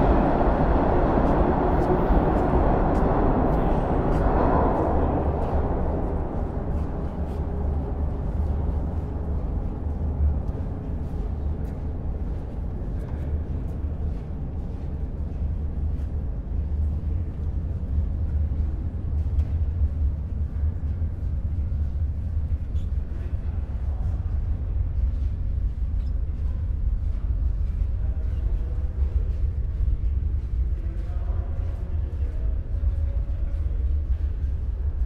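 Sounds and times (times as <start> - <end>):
subway train rumbling: 0.0 - 35.0.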